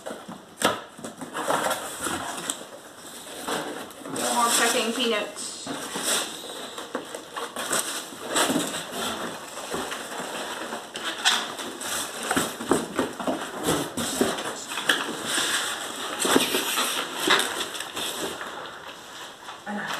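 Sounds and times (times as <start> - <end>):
rustling in packing peanuts: 0.0 - 19.9.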